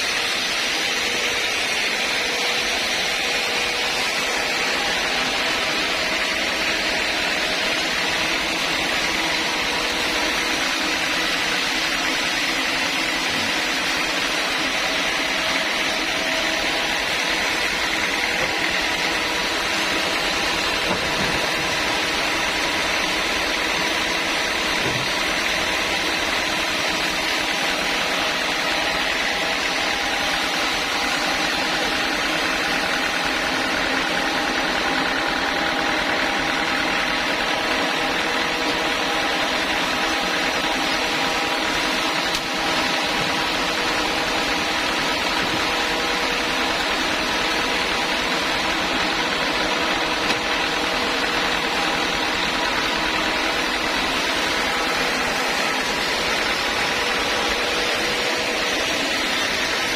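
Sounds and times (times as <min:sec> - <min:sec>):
sawmill machinery hum: 0:00.0 - 0:59.9.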